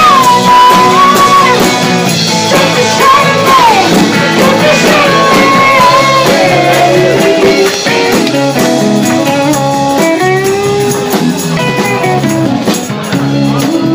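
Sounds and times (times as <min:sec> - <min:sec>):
bass guitar: 0:00.0 - 0:13.9
electric guitar: 0:00.0 - 0:13.9
live rock band playing: 0:00.0 - 0:13.9.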